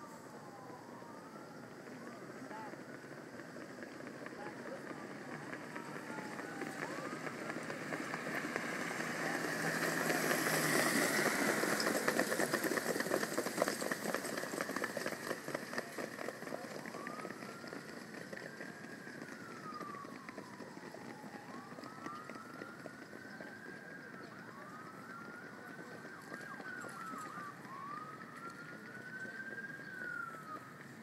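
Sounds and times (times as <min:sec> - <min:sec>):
outdoor background rush: 0:00.0 - 0:31.0
siren wailing: 0:00.0 - 0:31.0.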